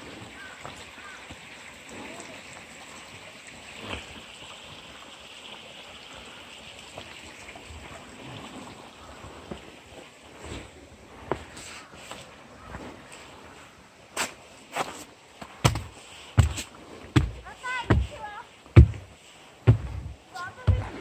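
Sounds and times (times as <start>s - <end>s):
stream water trickling over rocks: 0.0s - 20.9s.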